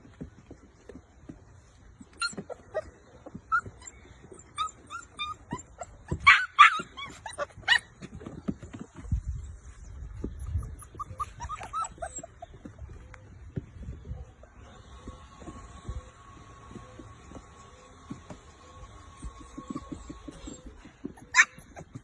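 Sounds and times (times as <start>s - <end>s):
puppies yipping and whimpering: 2.0s - 13.8s, 14.5s - 22.0s.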